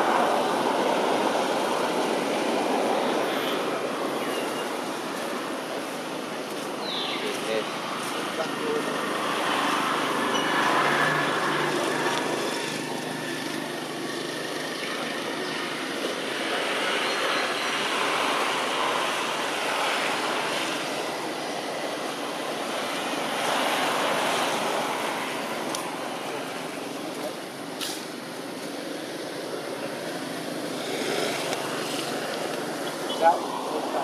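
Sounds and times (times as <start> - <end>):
steady outdoor rushing noise: 0.0 - 34.0.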